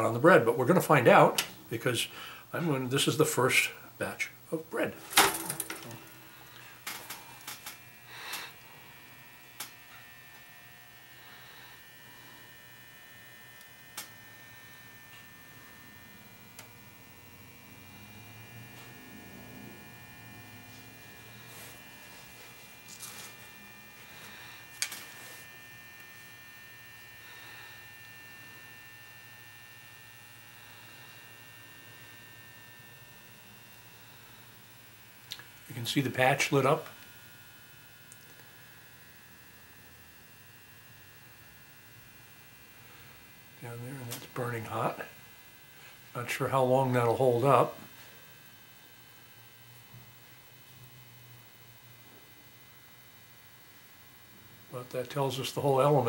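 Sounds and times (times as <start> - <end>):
toaster electrical hum: 0.0 - 56.0.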